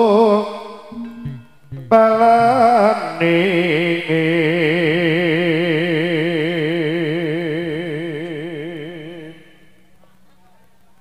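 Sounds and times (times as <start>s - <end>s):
deep voice singing long note: 0.0s - 9.7s.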